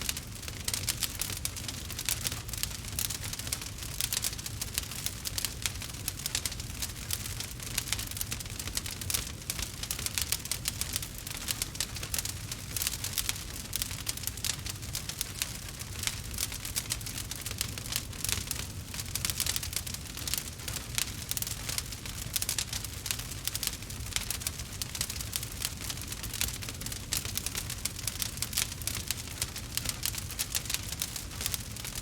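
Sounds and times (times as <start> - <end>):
fire crackling and popping: 0.0 - 32.0
low rumble of fire: 0.0 - 32.0.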